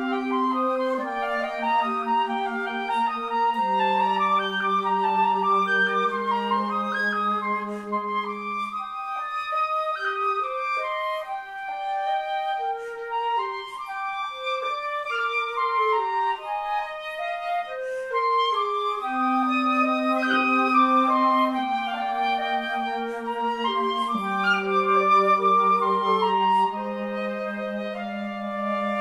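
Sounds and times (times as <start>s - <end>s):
alto flute holding low note: 0.0s - 29.0s
concert flute: 0.0s - 29.0s
piccolo: 0.0s - 29.0s.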